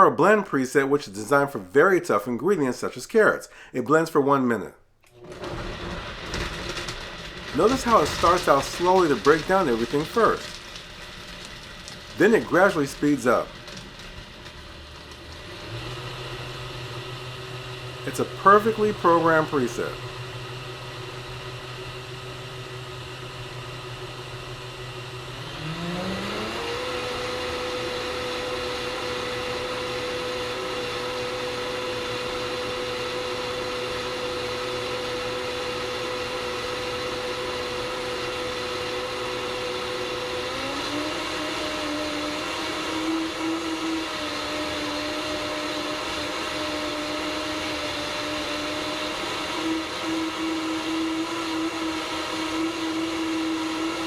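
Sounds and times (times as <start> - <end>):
blender motor whining: 5.0 - 54.0.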